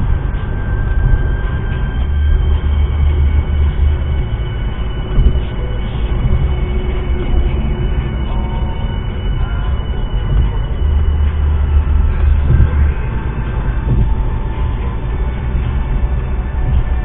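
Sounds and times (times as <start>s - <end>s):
car road and tyre rumble: 0.0s - 17.0s
faint high whine: 0.0s - 17.0s.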